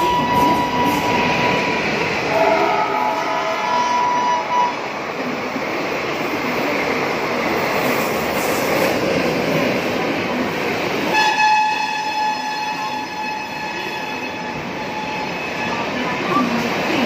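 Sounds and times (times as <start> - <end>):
train rushing on rails: 0.0 - 17.0.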